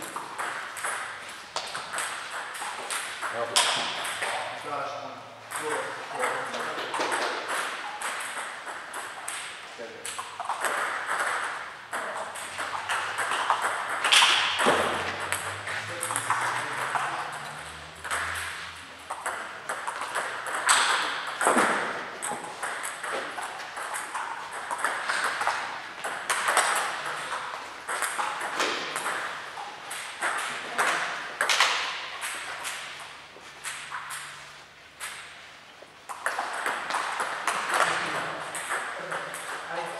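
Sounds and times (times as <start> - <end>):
ball clicks from other tables: 0.0 - 4.5, 5.5 - 35.4, 36.1 - 39.7
table tennis ball clicking: 5.5 - 34.4, 36.1 - 39.7.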